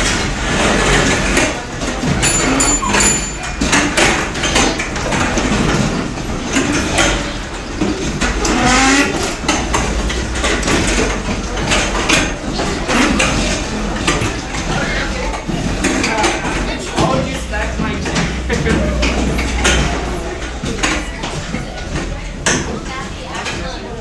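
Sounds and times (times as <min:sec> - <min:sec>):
desks and chairs scraping on tiles: 0:00.0 - 0:23.4.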